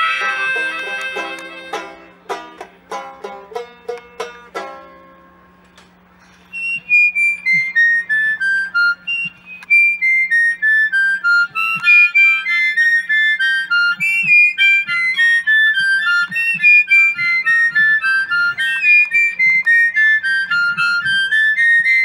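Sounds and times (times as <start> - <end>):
harmonicas playing blues melody: 0.0 - 22.0.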